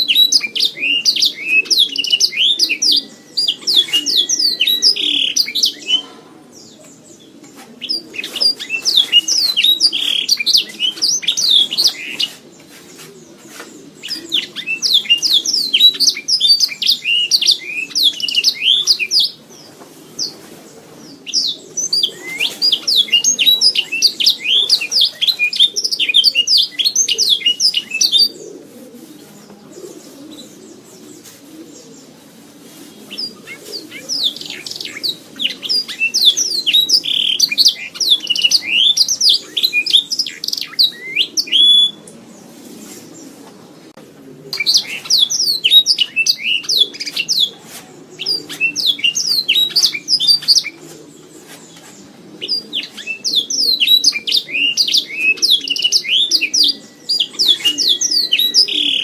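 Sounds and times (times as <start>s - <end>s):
canary singing: 0.0s - 28.9s, 33.0s - 42.2s, 44.5s - 50.8s, 51.6s - 59.0s
faint low background noise: 0.0s - 59.0s.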